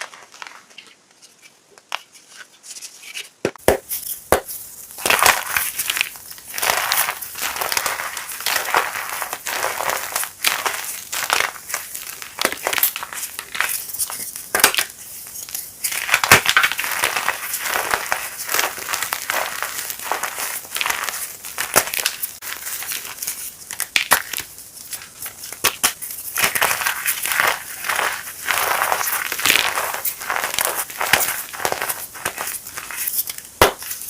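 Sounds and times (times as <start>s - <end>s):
chalk being crushed: 0.0s - 34.0s.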